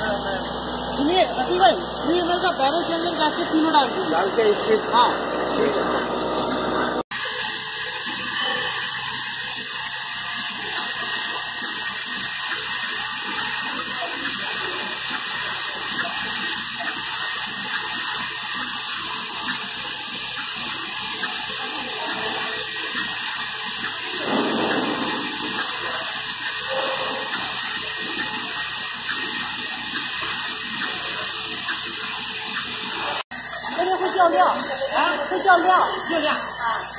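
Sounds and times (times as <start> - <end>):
machine rattling hiss: 0.0 - 36.9.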